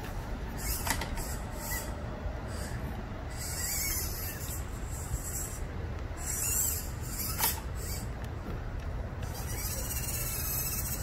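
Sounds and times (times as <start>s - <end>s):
servo motors whirring: 0.0s - 8.4s, 9.1s - 11.0s
steady low rumble: 0.0s - 11.0s.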